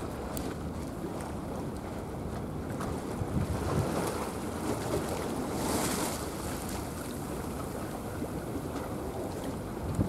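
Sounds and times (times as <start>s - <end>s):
waves washing: 0.0s - 10.0s
wind buffeting microphone: 0.0s - 10.0s.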